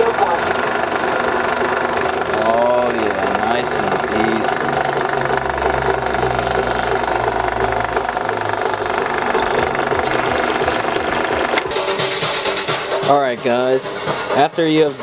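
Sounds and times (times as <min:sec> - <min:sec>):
drill bit cutting plastic: 0:00.0 - 0:12.7
drill press humming: 0:00.0 - 0:13.1.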